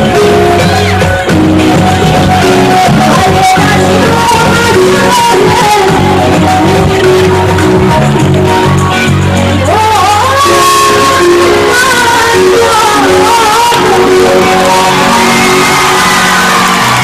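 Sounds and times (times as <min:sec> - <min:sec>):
instrumental backing music: 0:00.0 - 0:17.0
woman singing: 0:01.7 - 0:08.4, 0:09.6 - 0:16.7.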